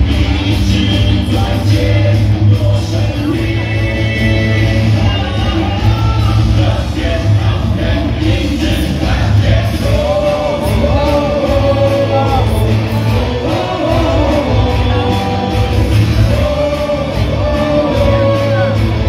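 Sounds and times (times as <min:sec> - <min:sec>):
cheer song over stadium speakers: 0:00.0 - 0:19.0
crowd singing along: 0:00.0 - 0:19.0.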